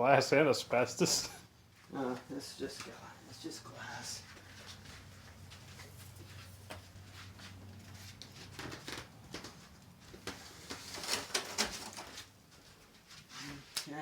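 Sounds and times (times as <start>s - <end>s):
insulation crackling and rustling: 0.7s - 14.0s.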